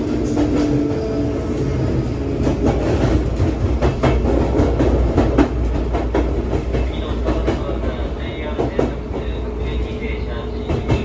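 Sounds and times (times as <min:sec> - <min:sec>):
train interior rumble: 0:00.0 - 0:11.0.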